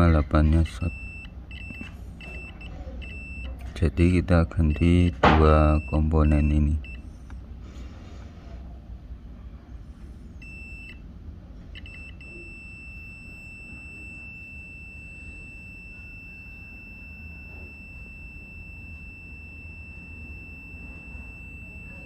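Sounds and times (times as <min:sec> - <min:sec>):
multimeter continuity beep: 0:00.1 - 0:07.0, 0:10.4 - 0:11.0, 0:11.7 - 0:22.0.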